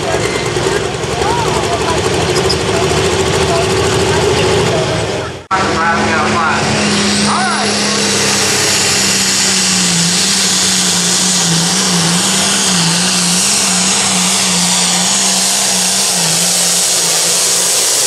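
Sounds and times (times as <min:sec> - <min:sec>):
diesel engine at high revs: 0:00.0 - 0:18.0.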